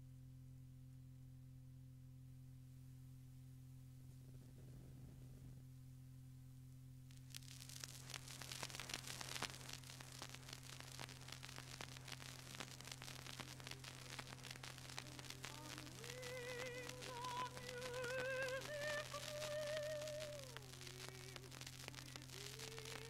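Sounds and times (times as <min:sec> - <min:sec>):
crackle and hiss of old recording: 0:00.0 - 0:23.0
steady low hum: 0:00.0 - 0:23.0.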